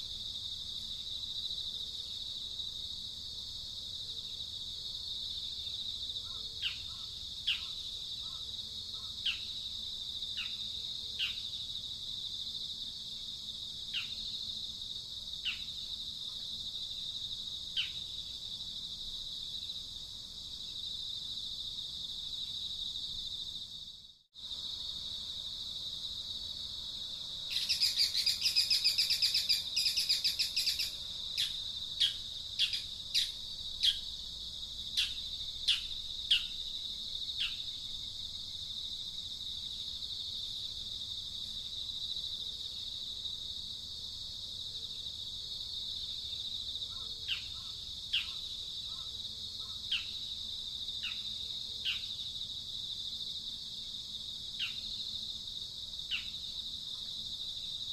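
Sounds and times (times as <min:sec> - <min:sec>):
high insect drone: 0:00.0 - 0:57.9.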